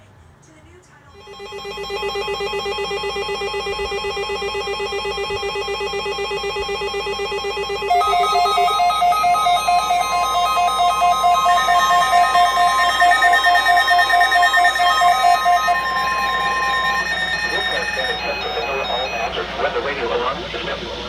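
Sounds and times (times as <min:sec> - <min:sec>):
warbling alert tone: 0:01.2 - 0:19.7
pulsing electronic beeps: 0:01.2 - 0:20.1.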